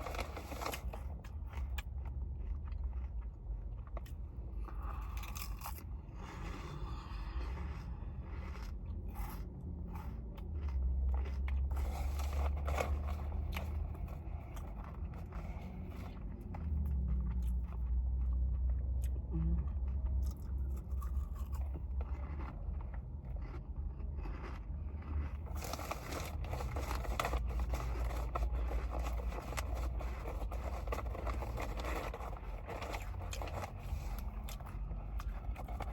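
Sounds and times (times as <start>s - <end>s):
low rumble: 0.0s - 35.9s
person chewing and crunching: 0.0s - 35.9s.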